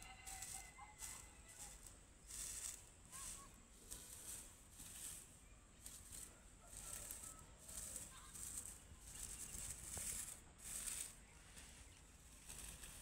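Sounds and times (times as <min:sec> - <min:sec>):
dry grass rustling: 0:00.0 - 0:13.0.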